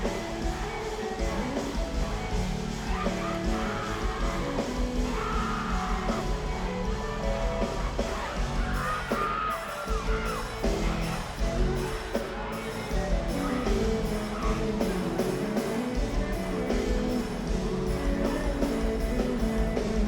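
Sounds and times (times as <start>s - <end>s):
people yelling and whooping: 0.0s - 20.0s
steady drum beat: 0.0s - 20.0s.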